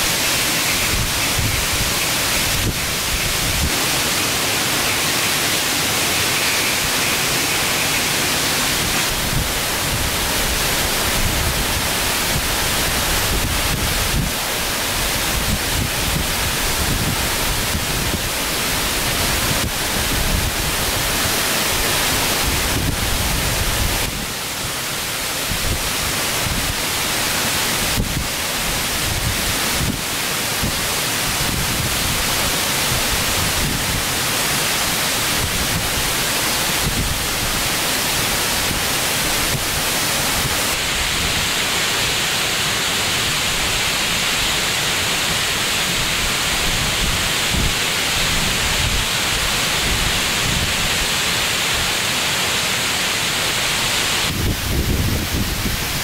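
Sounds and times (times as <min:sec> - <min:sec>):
steady rushing noise: 0:00.0 - 0:56.0.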